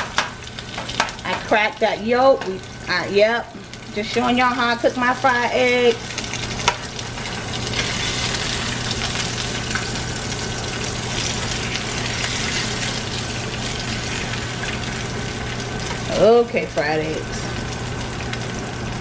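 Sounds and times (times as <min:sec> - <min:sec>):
eggs sizzling in oil: 0:00.0 - 0:19.0.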